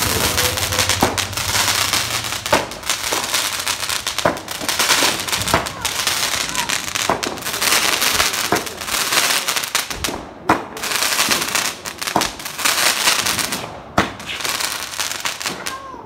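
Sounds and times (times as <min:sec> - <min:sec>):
crackling hiss: 0:00.0 - 0:15.4
firework bangs: 0:00.0 - 0:16.0.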